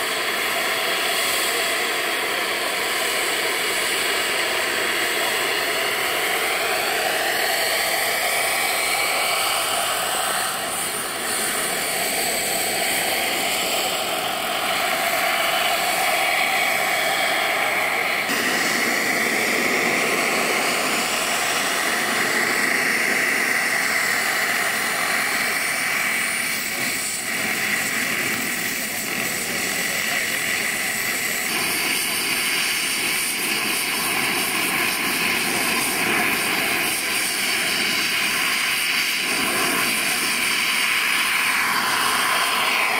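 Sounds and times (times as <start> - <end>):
model helicopter turbine whine: 0.0 - 42.9.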